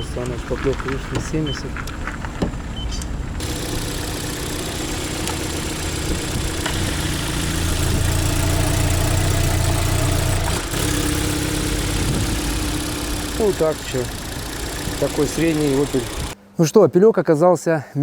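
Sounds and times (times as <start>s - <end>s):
car engine idling and revving: 0.0s - 16.4s.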